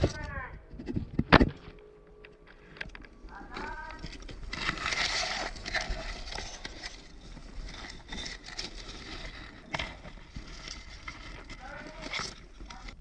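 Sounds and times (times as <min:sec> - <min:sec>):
scraping and rustling: 0:00.0 - 0:13.0.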